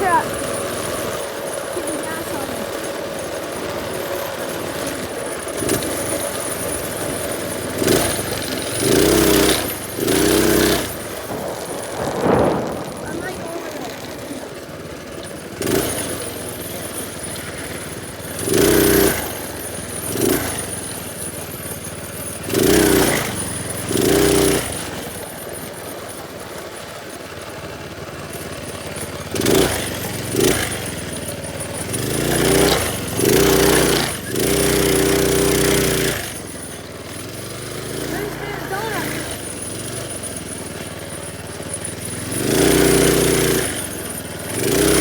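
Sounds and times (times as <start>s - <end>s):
small engine revving: 0.0s - 45.0s.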